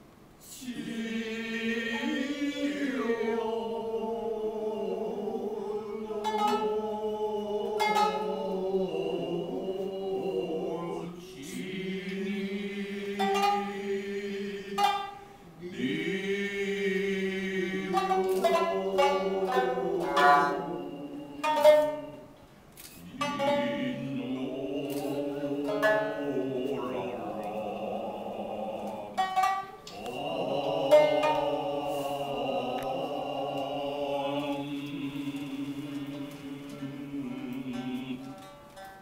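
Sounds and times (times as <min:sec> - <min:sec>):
singers holding long notes: 0:00.0 - 0:39.0
shamisen plucking: 0:00.8 - 0:39.0.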